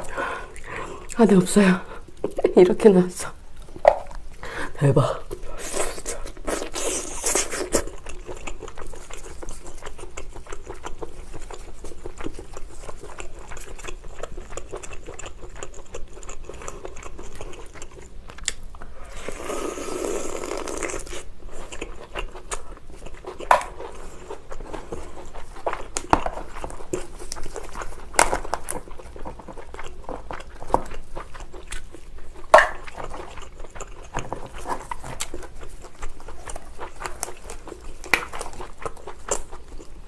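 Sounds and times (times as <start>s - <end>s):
chewing lobster: 5.1s - 40.0s.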